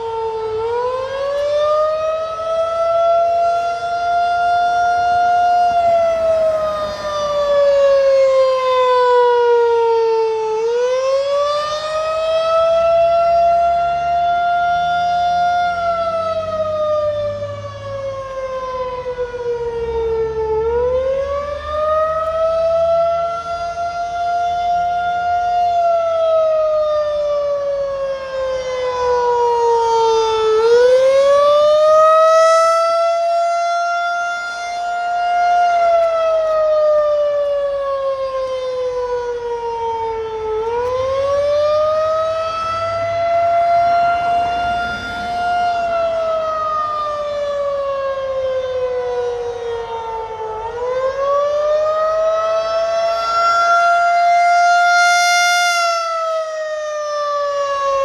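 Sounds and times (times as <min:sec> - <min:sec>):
tornado siren howling: 0:00.0 - 0:58.0.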